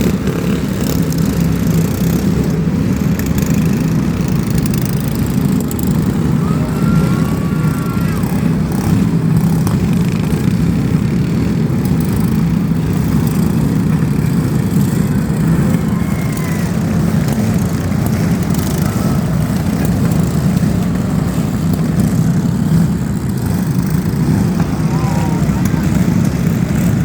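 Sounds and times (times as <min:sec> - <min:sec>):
vehicle engines droning: 0:00.0 - 0:27.0.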